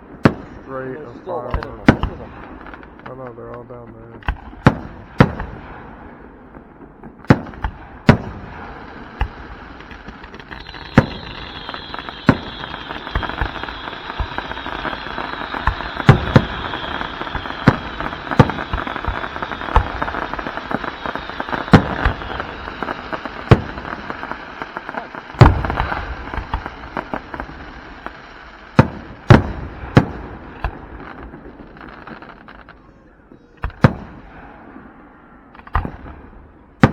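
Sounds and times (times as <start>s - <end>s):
fireworks crackling: 0.0s - 35.0s, 35.6s - 36.9s
fireworks booming: 0.0s - 36.9s.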